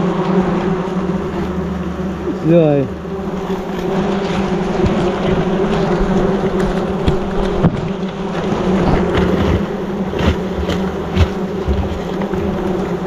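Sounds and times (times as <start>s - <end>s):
wasps buzzing: 0.0s - 13.0s.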